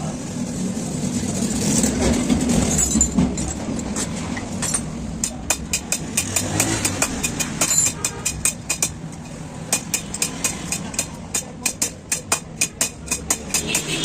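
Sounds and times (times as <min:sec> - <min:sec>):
road traffic engine rumble: 0:00.0 - 0:14.0.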